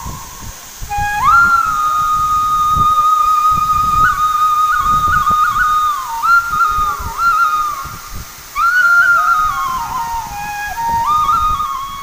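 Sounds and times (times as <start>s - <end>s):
solo flute melody: 0.0s - 12.0s.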